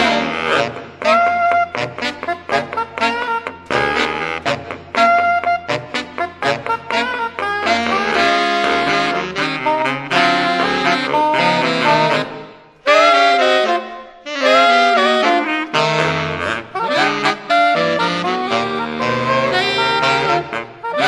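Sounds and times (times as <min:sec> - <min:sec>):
saxophone quartet playing jazz: 0:00.0 - 0:21.0.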